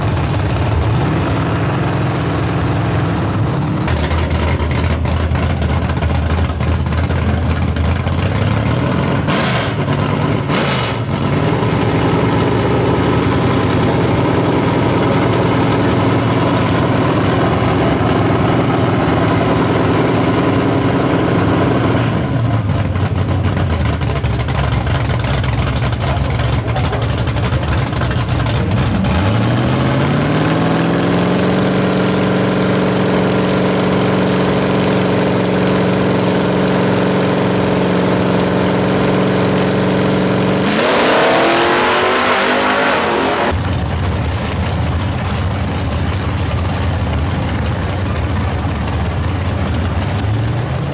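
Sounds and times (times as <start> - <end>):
drag race engines revving: 0.0 - 50.9
engines accelerating away: 7.8 - 50.9.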